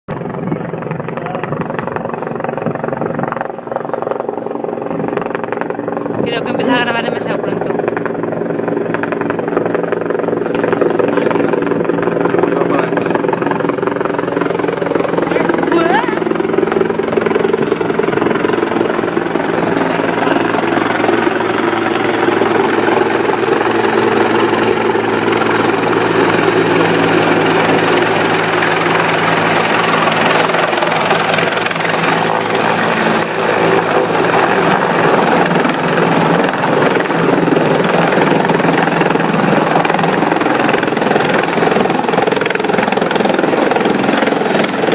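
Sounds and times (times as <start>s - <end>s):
helicopter turbine and rotor noise: 0.1s - 44.9s.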